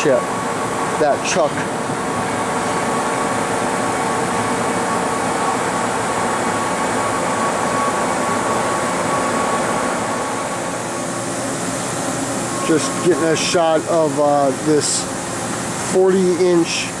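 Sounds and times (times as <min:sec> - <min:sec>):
lathe running with high whine: 0:00.0 - 0:17.0.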